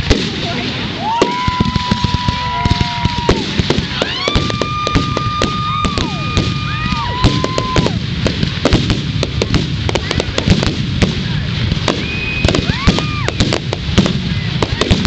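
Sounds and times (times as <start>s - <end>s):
fireworks crackling and popping: 0.0s - 15.0s
fireworks whistling: 0.0s - 15.0s.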